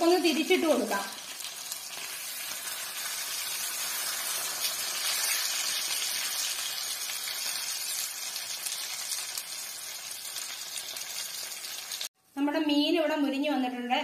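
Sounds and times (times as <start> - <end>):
fish sizzling in oil: 0.0 - 12.1.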